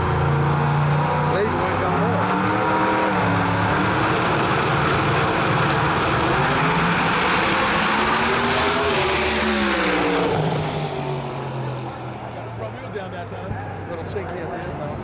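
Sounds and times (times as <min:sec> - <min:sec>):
drag car engine and turbo: 0:00.0 - 0:15.0.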